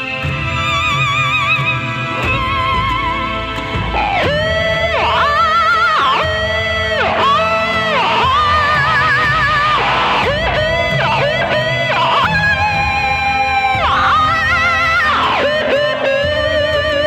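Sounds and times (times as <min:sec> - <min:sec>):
guitar-like lead with vibrato: 0:00.0 - 0:17.0
steady music backing: 0:00.0 - 0:17.0.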